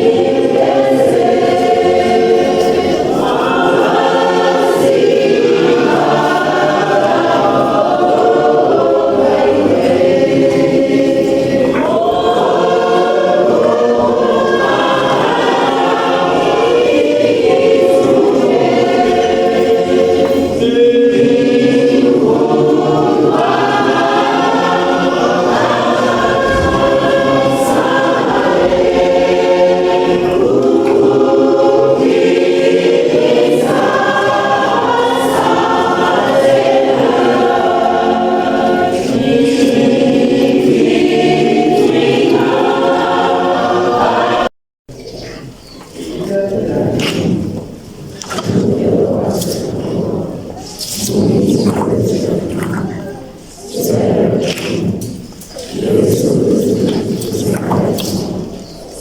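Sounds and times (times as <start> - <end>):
choir singing gospel: 0.0 - 59.0.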